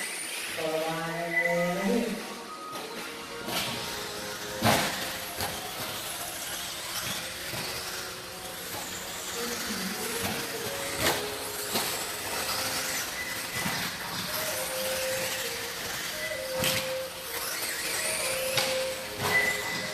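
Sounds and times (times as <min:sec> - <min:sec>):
rc car motor whine: 0:00.0 - 0:19.9.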